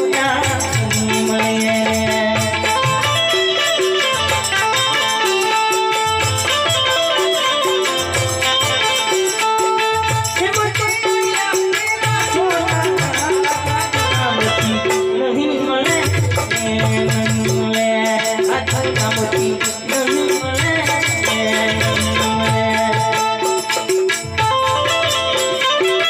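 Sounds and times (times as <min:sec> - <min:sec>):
folk music with drum: 0:00.0 - 0:26.0.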